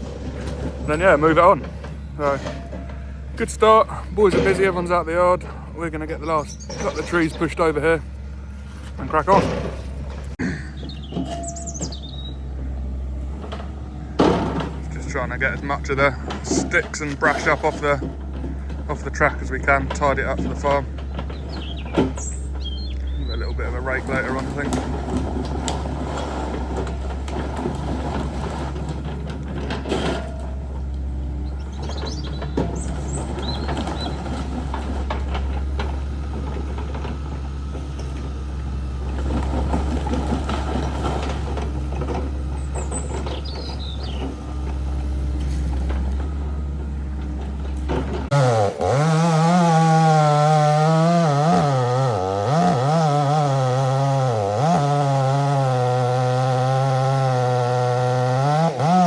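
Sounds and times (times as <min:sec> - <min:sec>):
chainsaw cutting wood: 0:00.0 - 0:12.1, 0:13.2 - 0:22.9, 0:23.6 - 0:46.4, 0:47.3 - 0:59.0
birds chirping: 0:00.0 - 0:49.2
heavy machine engine droning: 0:00.0 - 0:59.0.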